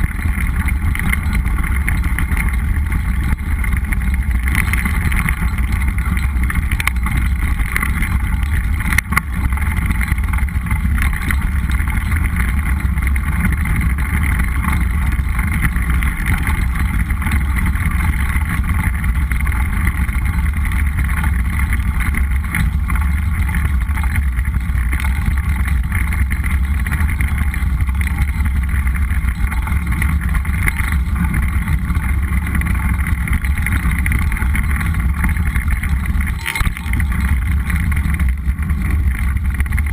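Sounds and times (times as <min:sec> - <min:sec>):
bike tyres rumbling on dirt: 0:00.0 - 0:39.9.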